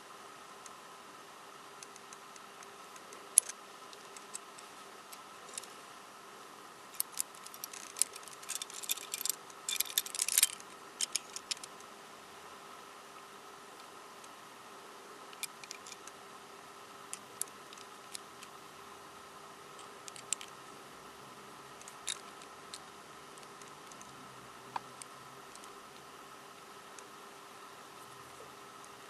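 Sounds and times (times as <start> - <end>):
faint hiss: 0.0 - 29.0.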